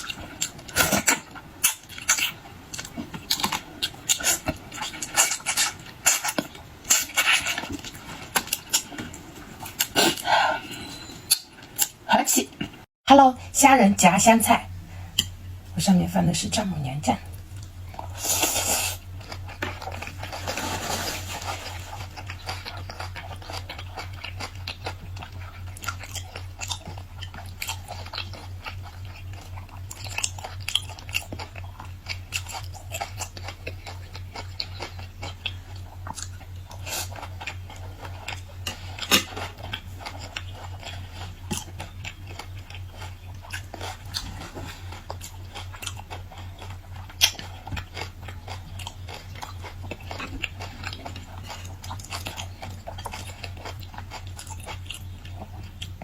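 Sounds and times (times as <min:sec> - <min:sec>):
person chewing crunchy food: 0:00.0 - 0:12.0, 0:17.2 - 0:56.0
steady low hum: 0:00.0 - 0:56.0.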